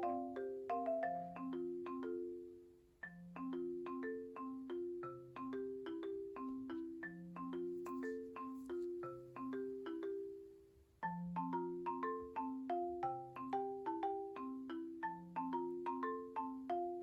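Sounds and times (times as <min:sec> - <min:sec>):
bouncy marimba melody: 0:00.0 - 0:17.0.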